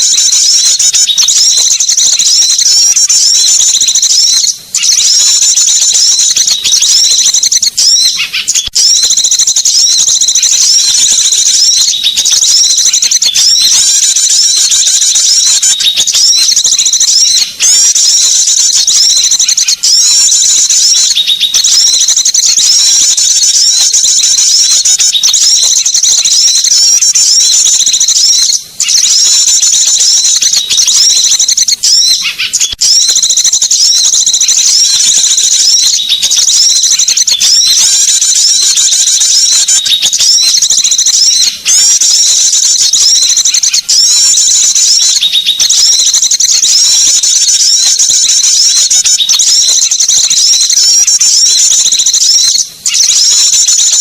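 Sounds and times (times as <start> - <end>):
songbirds trilling: 0.0 - 54.0.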